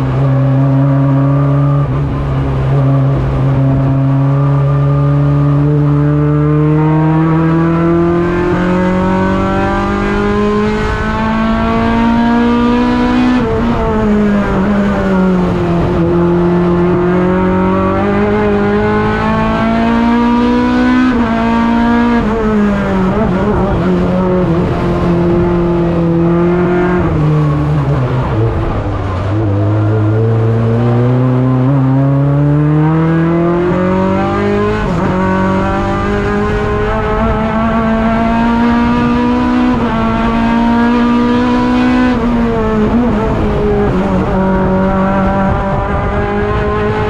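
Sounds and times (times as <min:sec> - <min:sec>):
race car engine revving: 0:00.0 - 0:47.0.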